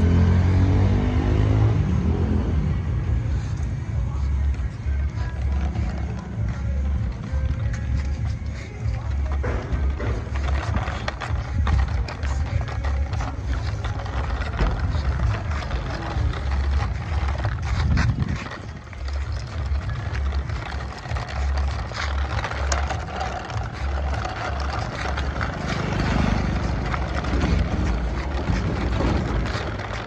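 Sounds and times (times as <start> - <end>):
toy tractor rolling over stone: 3.2 - 30.0.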